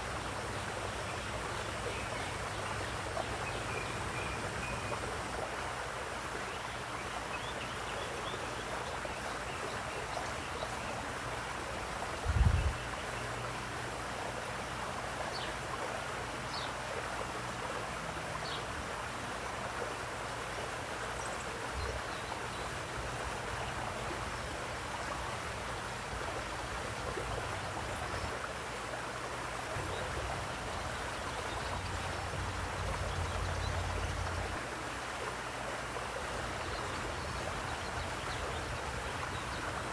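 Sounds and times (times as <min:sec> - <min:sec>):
water flowing and splashing: 0:00.0 - 0:39.9.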